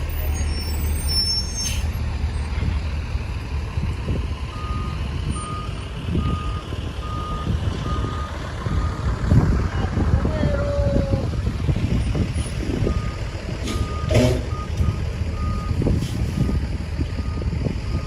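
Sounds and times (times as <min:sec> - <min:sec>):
diesel truck engine idling: 0:01.9 - 0:18.0.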